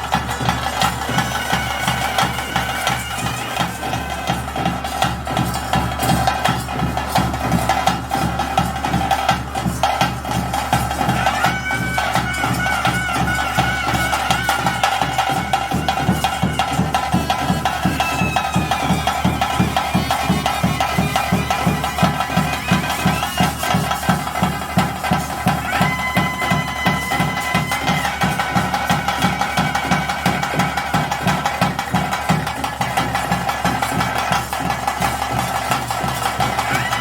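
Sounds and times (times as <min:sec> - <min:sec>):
fast even drumming: 0:00.0 - 0:37.0
reed wind instrument melody: 0:00.0 - 0:37.0.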